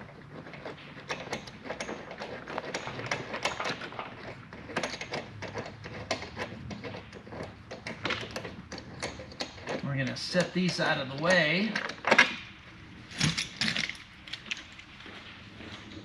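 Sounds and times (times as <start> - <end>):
metallic clicks and knocks: 0.4 - 14.9.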